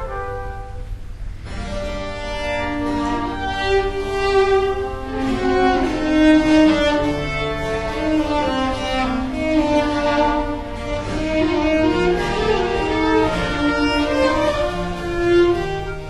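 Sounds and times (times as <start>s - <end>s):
slow sustained background music: 0.0s - 16.0s.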